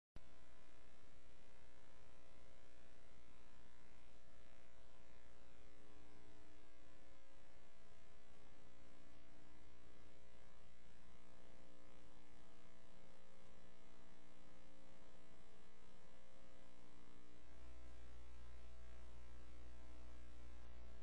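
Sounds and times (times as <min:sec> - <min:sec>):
electrical hum and buzz: 0:00.2 - 0:21.0.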